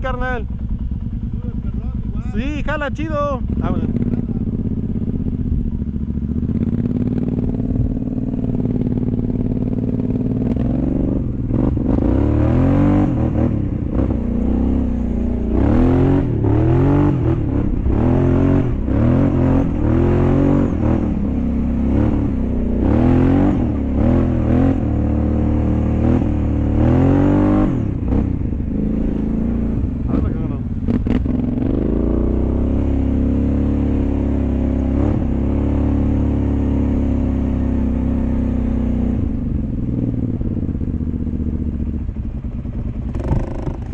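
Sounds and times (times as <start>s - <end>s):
engine clatter: 0.0s - 32.6s, 39.2s - 43.9s
off-road vehicle engine revving: 0.0s - 43.9s.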